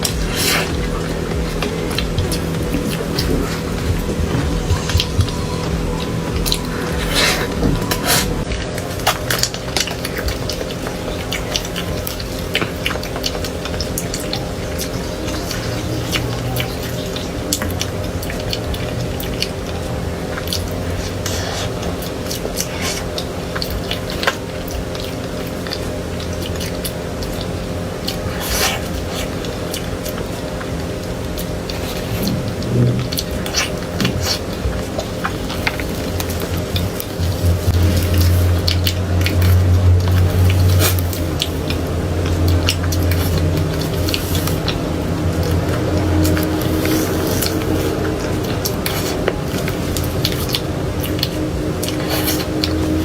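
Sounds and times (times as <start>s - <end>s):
eating cake close up: 0.0s - 53.0s
low background hum: 0.0s - 53.0s.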